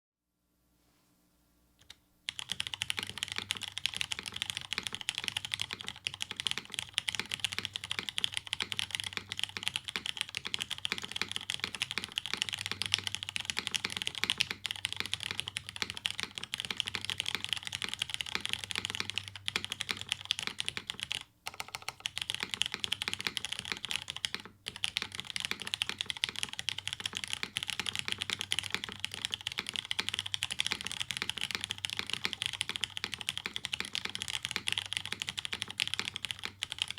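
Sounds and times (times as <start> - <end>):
fast typing on mechanical keyboard: 2.3 - 36.9.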